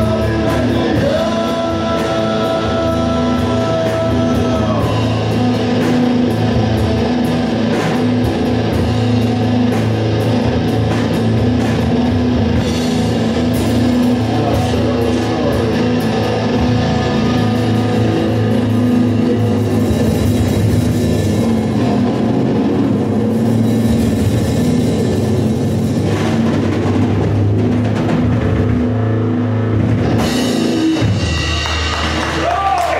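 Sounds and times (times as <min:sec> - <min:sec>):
bass guitar: 0:00.0 - 0:32.9
drum kit with cymbals: 0:00.0 - 0:32.9
electric guitar: 0:00.0 - 0:32.9.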